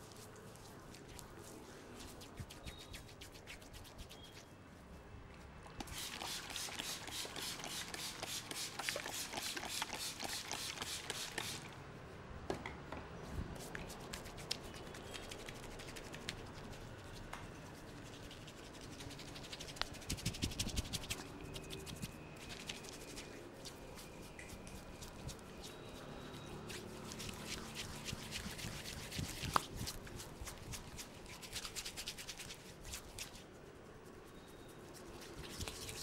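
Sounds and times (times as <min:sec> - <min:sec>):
fingers rubbing wet hair: 0:00.0 - 0:04.8, 0:05.8 - 0:11.8, 0:13.6 - 0:36.0.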